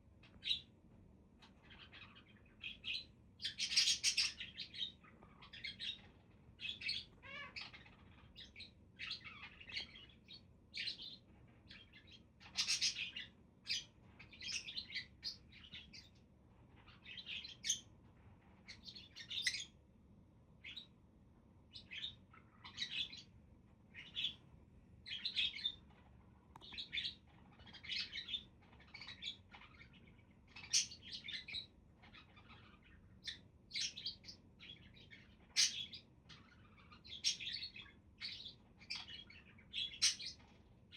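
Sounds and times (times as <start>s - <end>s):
budgerigars chirping and chattering: 0.2s - 0.7s, 1.4s - 19.8s, 20.6s - 20.9s, 21.7s - 23.3s, 23.9s - 24.4s, 25.0s - 40.6s.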